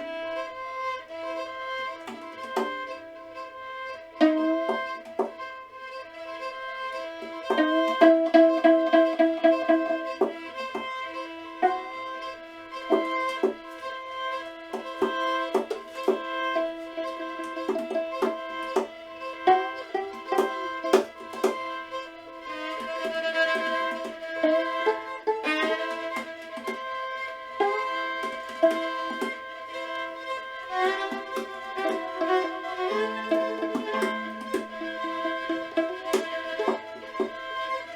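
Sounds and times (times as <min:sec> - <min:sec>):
instrumental music: 0:00.0 - 0:37.9.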